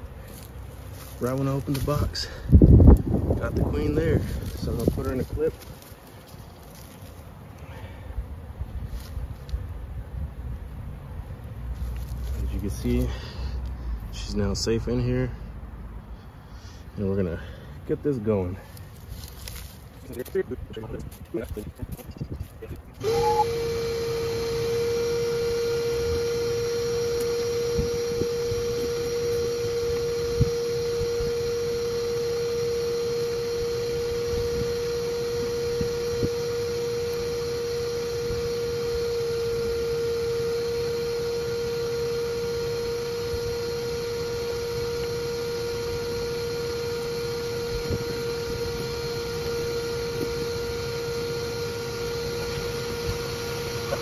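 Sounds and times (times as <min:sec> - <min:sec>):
vacuum motor running: 0:00.0 - 0:09.6, 0:11.4 - 0:15.2, 0:19.2 - 0:54.0.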